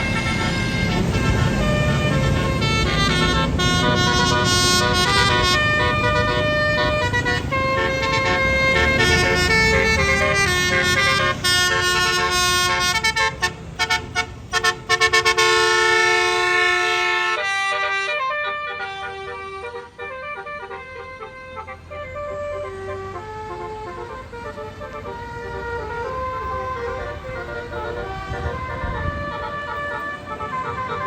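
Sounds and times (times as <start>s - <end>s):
bus engine rumble: 0.0s - 31.0s
bus horn playing multi-tone tune: 0.0s - 31.0s.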